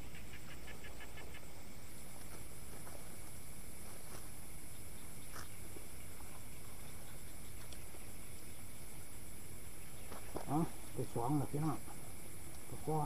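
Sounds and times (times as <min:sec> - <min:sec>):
insects trilling high-pitched: 0:00.0 - 0:13.0
rapid insect chirps: 0:00.0 - 0:13.0.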